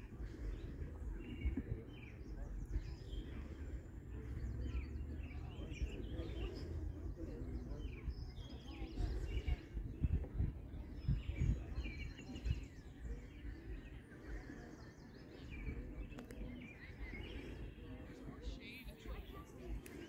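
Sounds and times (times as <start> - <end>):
small birds chirping: 0.0 - 20.0
wind buffeting microphone: 0.0 - 20.0.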